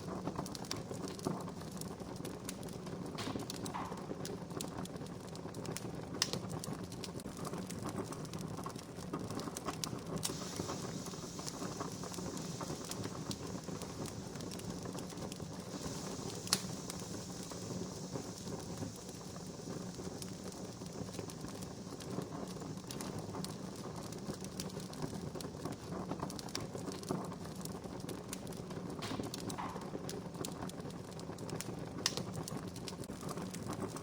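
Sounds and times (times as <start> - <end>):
campfire crackling: 0.0 - 34.0
loud fire pops: 0.0 - 34.0.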